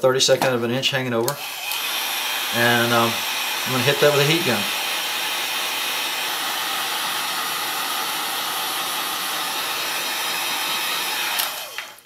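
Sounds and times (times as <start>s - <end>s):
heat gun blowing air: 1.2s - 12.0s.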